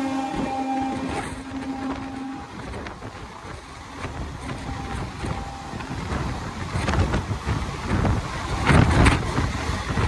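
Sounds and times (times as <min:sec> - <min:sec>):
train coaches rushing past: 0:00.0 - 0:10.0
wind buffeting microphone: 0:00.0 - 0:10.0
wheels clattering over rail joints: 0:00.4 - 0:10.0.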